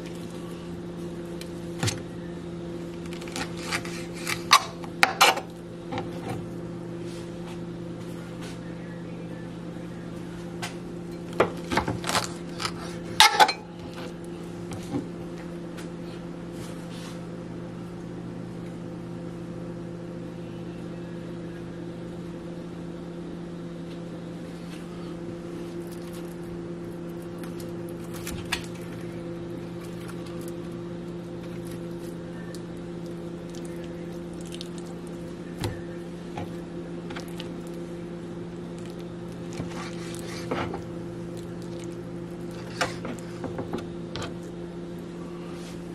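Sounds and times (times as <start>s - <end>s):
appliance humming: 0.0s - 45.9s.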